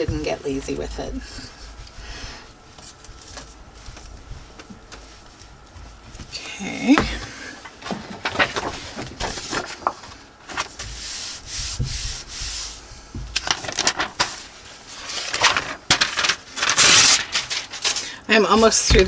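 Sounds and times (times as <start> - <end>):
paper rubbing and rustling: 0.3 - 6.4, 7.2 - 19.0.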